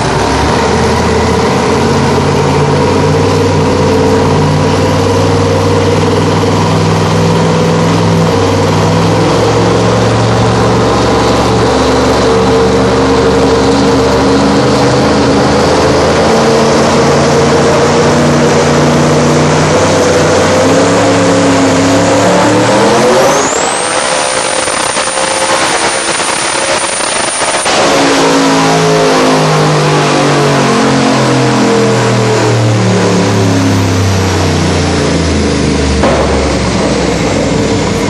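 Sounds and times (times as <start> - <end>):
car engine revving on dyno: 0.0 - 38.0.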